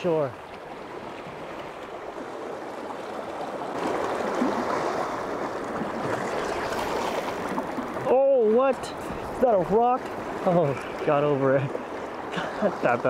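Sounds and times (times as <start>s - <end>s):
sea water surging against rocks: 0.0s - 13.0s.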